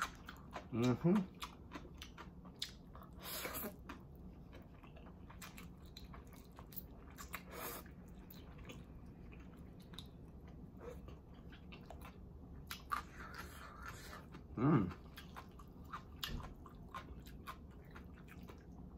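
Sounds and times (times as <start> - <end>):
person chewing food: 0.0 - 18.9.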